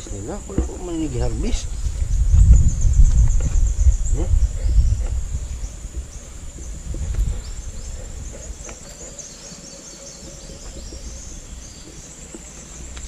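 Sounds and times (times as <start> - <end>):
insect chirping phrases: 0.0 - 13.0
insects buzzing: 0.0 - 13.0.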